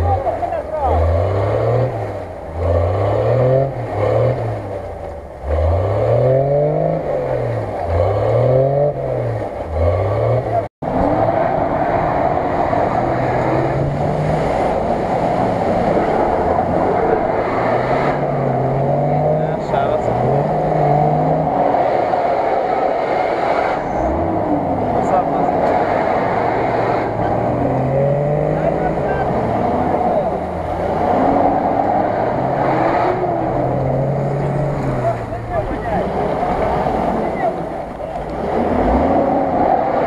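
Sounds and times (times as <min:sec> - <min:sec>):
pickup engine at high revs: 0:00.0 - 0:40.0
engine revving hard: 0:00.8 - 0:04.8, 0:05.4 - 0:40.0.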